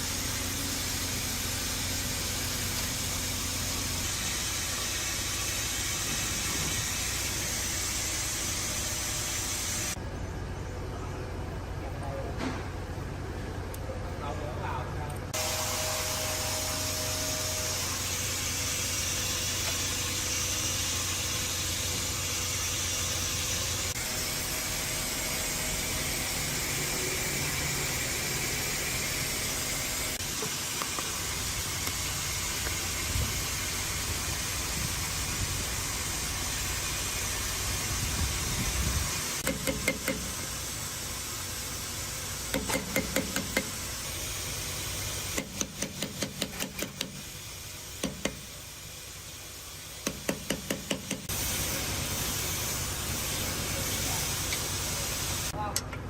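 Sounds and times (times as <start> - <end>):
machine hissing and humming: 0.0 - 11.7, 14.6 - 55.6.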